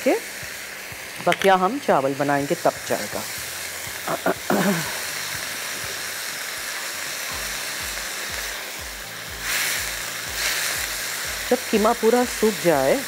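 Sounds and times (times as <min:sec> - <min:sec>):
meat and onions sizzling: 0:00.0 - 0:13.0
soft background music with beat: 0:00.0 - 0:13.0.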